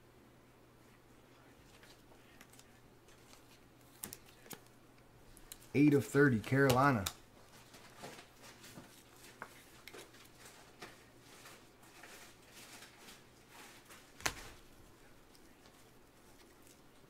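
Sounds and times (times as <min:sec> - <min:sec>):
hands rustling trading cards: 0:01.4 - 0:17.0.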